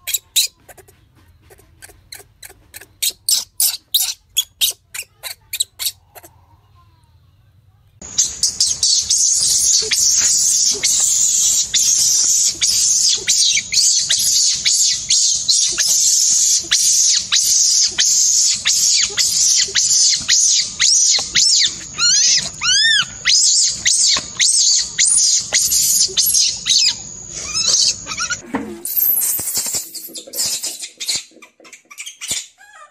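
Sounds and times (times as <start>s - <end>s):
baby animal squeaking: 0.0s - 6.4s, 8.0s - 32.9s.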